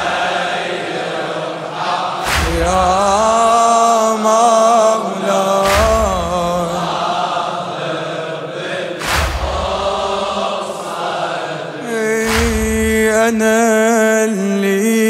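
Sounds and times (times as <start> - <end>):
voices chanting a lament: 0.0 - 15.0.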